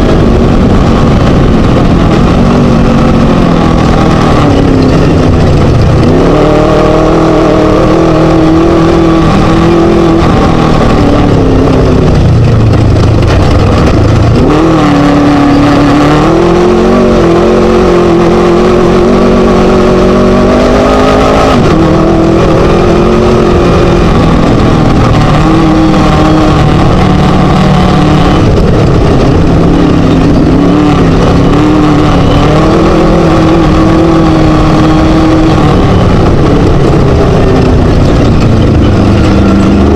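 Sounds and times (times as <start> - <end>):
race buggy engine revving: 0.0 - 39.9
rough-terrain rumble: 0.0 - 39.9.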